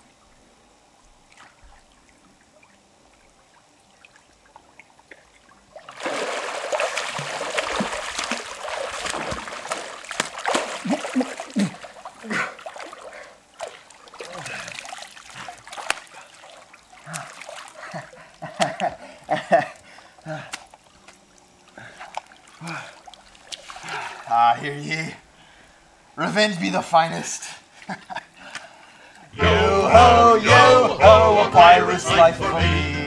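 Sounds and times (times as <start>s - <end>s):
pool water splashing: 0.0s - 33.0s.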